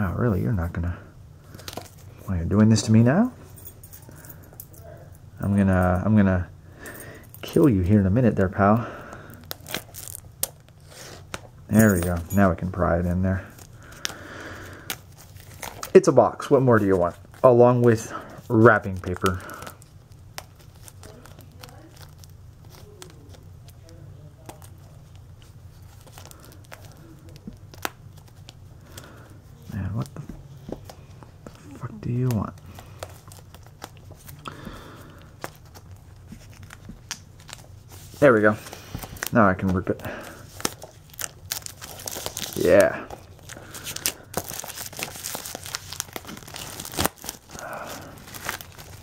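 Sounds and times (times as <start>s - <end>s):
plastic wrap crinkling: 7.5s - 49.0s.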